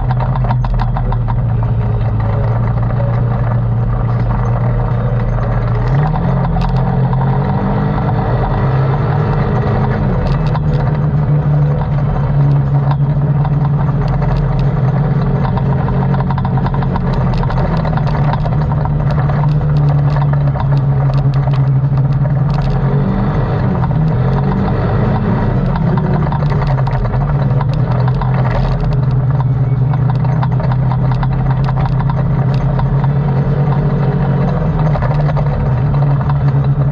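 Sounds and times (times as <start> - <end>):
atv engine revving: 0.0 - 36.9.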